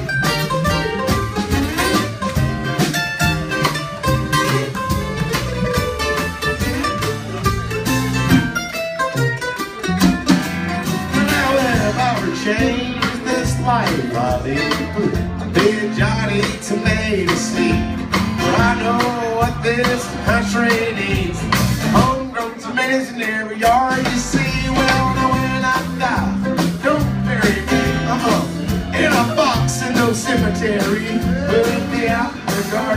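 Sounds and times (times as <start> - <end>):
plucked upright bass: 0.0 - 32.9
strummed acoustic guitar: 0.0 - 32.9.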